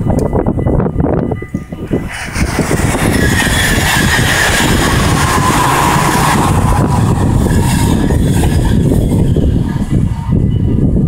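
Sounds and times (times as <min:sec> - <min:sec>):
train passing at speed: 0:00.0 - 0:11.0
train whine falling in pitch: 0:00.0 - 0:11.0.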